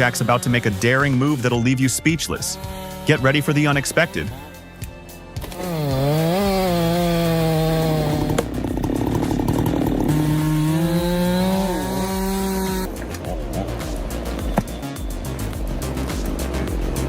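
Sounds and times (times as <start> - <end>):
chainsaw running at high speed: 0.0 - 4.8, 5.4 - 17.0.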